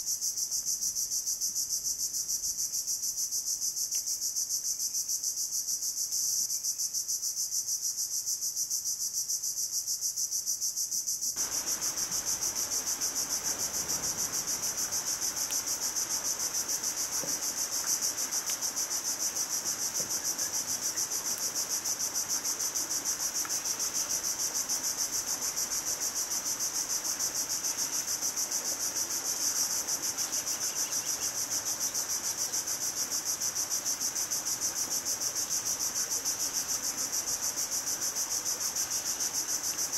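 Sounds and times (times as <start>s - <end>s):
faint low background hiss: 0.0s - 39.9s
high-pitched insect chorus: 0.0s - 39.9s.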